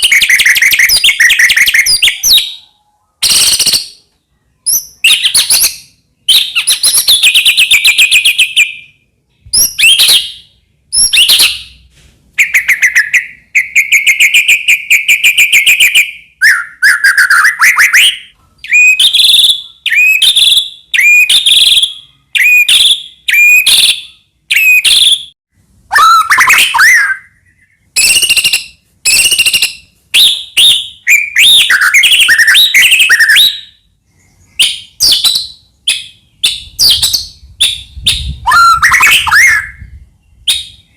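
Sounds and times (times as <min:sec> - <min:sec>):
songbird whistles and trills: 0:00.0 - 0:40.9.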